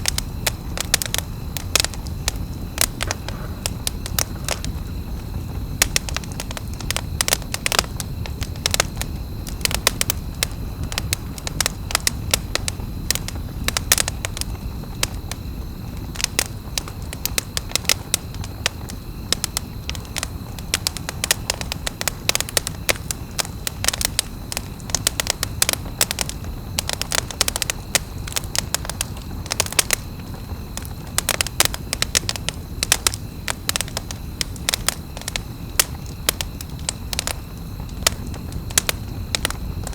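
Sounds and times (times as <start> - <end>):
campfire crackling and popping: 0.0 - 39.9
low rumble of fire: 0.0 - 39.9.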